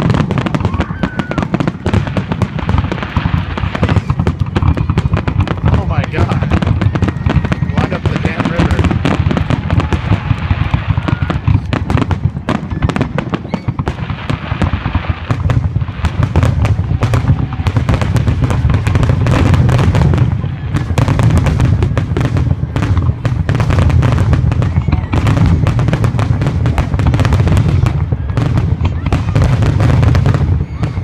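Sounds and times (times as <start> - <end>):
fireworks exploding: 0.0 - 31.0.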